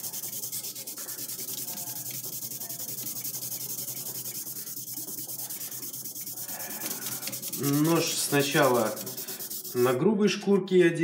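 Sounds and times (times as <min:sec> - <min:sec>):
sandpaper scratching on steel blade: 0:00.0 - 0:10.0.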